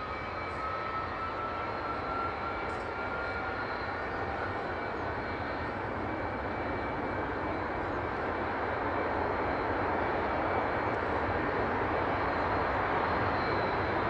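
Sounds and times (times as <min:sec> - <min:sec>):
jet engine running: 0:00.0 - 0:14.0.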